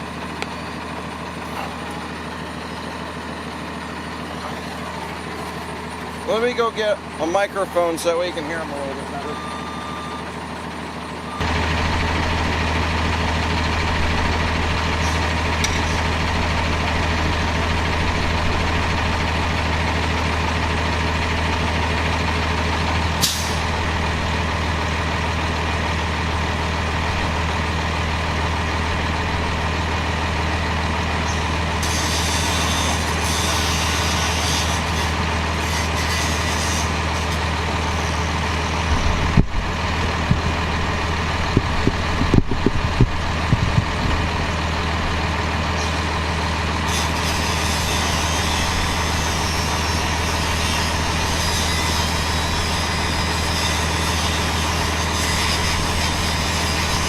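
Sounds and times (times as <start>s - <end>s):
engine droning steadily: 0.0s - 57.0s.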